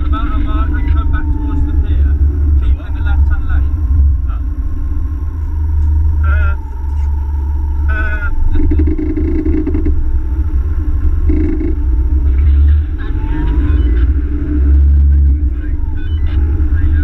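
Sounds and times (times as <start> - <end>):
car engine rumbling: 0.0 - 17.0
faint rising whine: 0.0 - 17.0.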